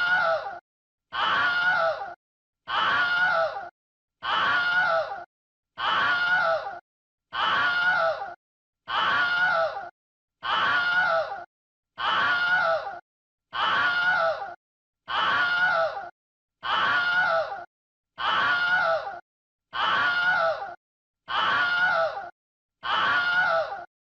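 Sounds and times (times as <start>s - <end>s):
human scream: 0.0s - 23.9s.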